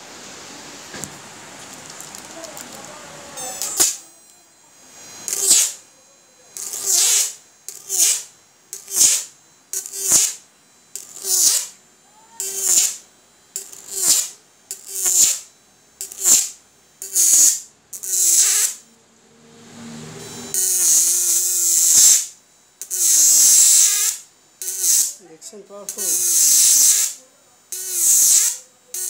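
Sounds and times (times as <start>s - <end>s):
crackling buzzing electric arcs: 0.8s - 19.0s, 20.1s - 29.0s.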